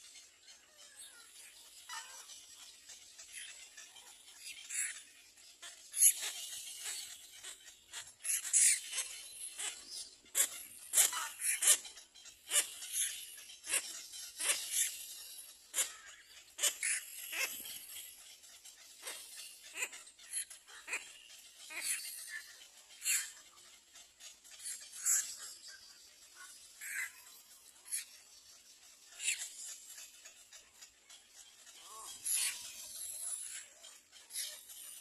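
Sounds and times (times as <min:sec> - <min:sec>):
young birds squeaking and cheeping: 0:00.0 - 0:35.0.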